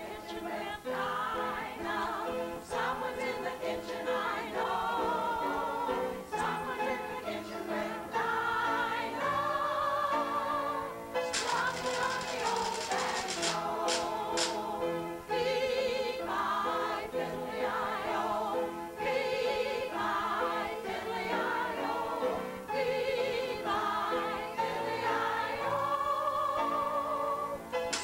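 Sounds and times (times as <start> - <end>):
upright piano: 0.0 - 28.0
women singing in unison: 0.0 - 28.0.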